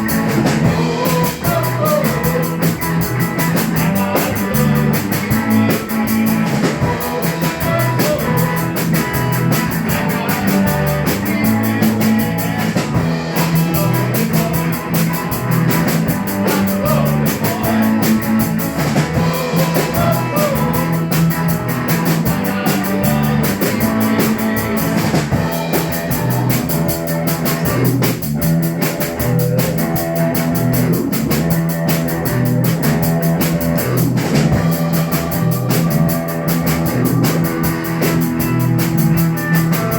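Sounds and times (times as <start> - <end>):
bass: 0.0 - 39.9
drum kit: 0.0 - 39.9
guitar: 0.0 - 39.9.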